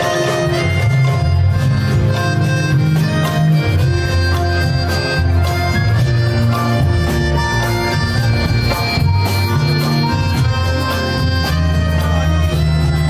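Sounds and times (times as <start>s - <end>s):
accordion melody: 0.0s - 13.0s
drum percussion: 0.0s - 13.0s.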